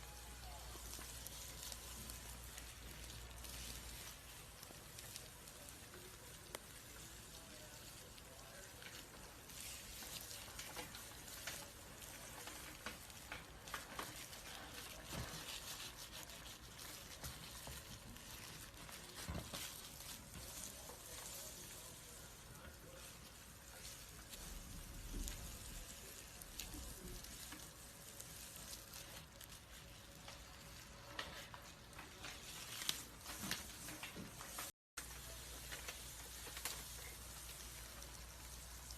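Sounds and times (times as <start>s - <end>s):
snake skin crackling: 0.0s - 38.9s.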